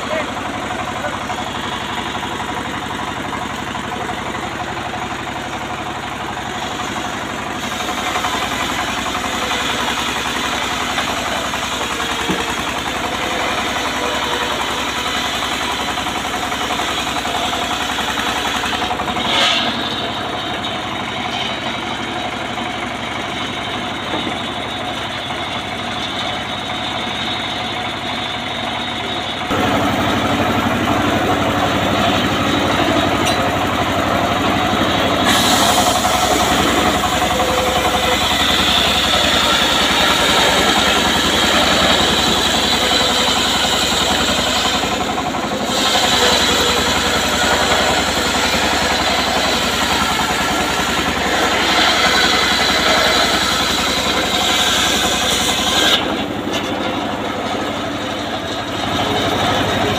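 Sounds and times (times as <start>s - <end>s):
engine-driven sawmill sawing log: 0.0s - 59.9s.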